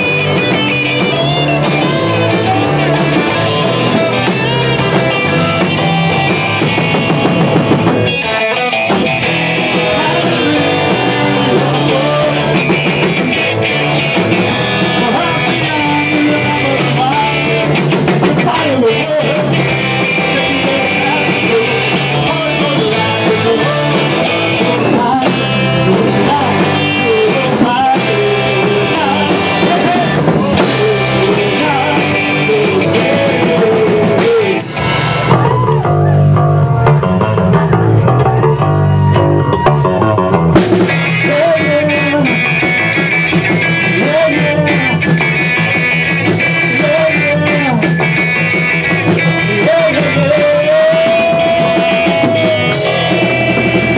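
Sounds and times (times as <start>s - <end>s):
man singing lead: 0.0s - 36.9s, 40.8s - 53.9s
drum kit: 0.0s - 53.9s
electric guitars: 0.0s - 53.9s.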